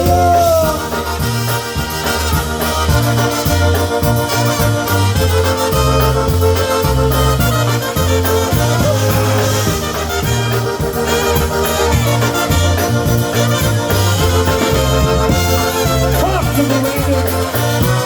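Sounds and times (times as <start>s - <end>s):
polka band playing: 0.0s - 18.0s.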